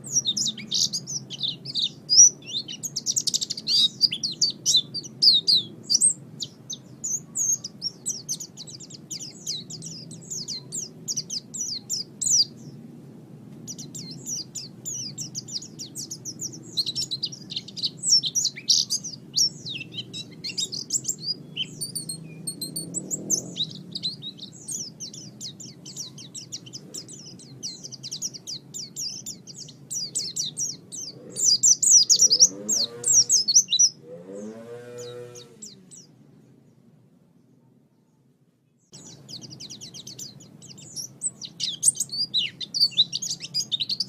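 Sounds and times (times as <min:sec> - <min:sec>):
drawn-out bird calls: 0:00.0 - 0:12.9, 0:13.6 - 0:36.2, 0:38.9 - 0:44.0
small birds chirping: 0:00.0 - 0:44.0.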